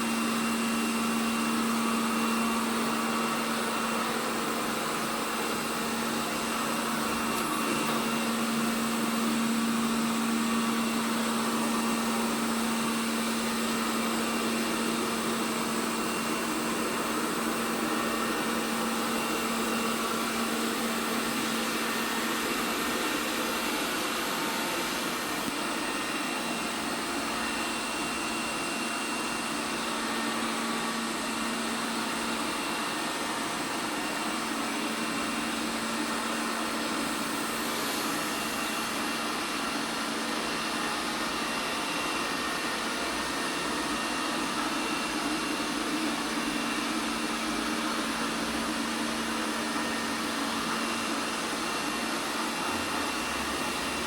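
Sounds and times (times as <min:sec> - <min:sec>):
robot vacuum cleaner whirring: 0:00.0 - 0:54.0.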